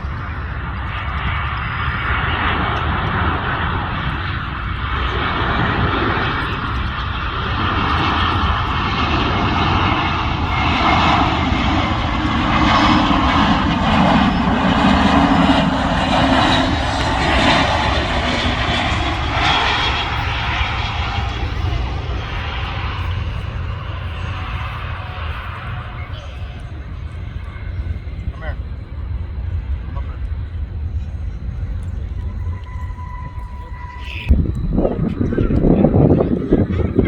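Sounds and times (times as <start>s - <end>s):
jet airliner passing: 0.0s - 37.0s.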